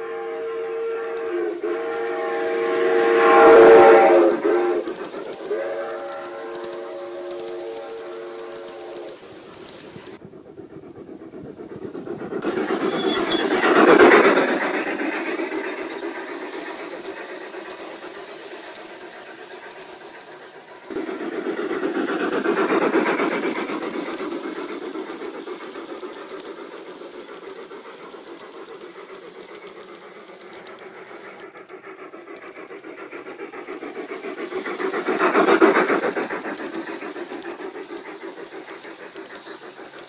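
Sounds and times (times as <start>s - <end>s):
model train wheels clattering on rails: 0.0s - 40.0s.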